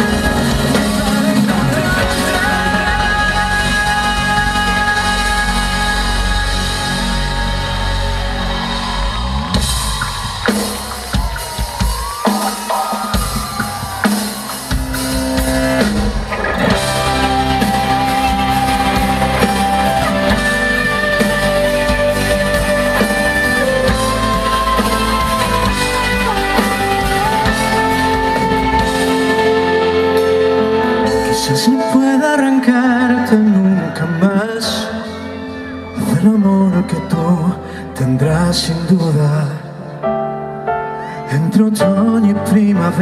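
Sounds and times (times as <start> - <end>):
sliding lead notes: 0.0 - 36.7
live band playing instrumental: 0.0 - 41.1
drum kit fills: 0.0 - 43.0.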